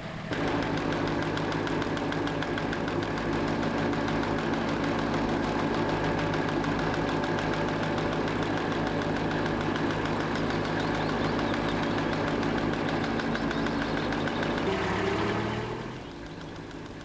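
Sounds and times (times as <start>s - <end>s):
boat engine chugging: 0.0s - 17.0s.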